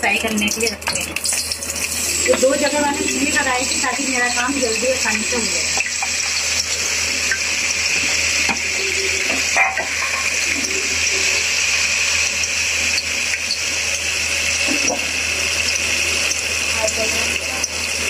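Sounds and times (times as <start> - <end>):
dumplings sizzling in oil: 0.0 - 18.0.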